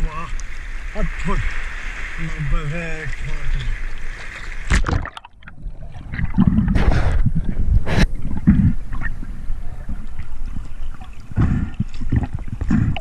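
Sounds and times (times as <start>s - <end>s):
muffled underwater water noise: 0.0s - 13.0s
water splashing and sloshing: 0.0s - 13.0s.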